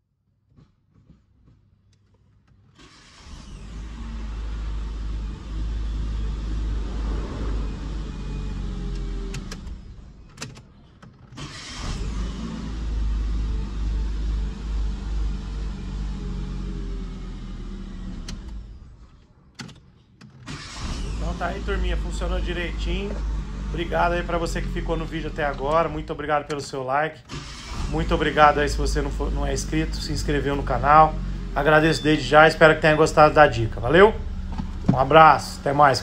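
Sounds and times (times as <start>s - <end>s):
car engine running: 1.0s - 10.4s, 11.4s - 19.2s, 20.5s - 36.0s
starter motor cranking: 2.6s - 10.6s, 11.2s - 19.1s, 20.2s - 36.0s.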